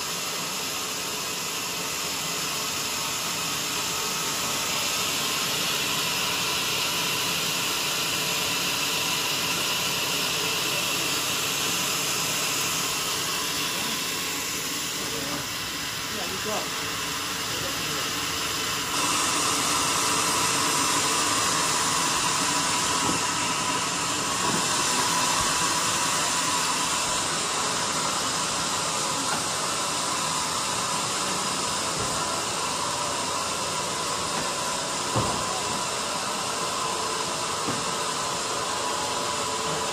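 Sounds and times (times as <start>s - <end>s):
band saw whirring hiss: 0.0s - 39.9s.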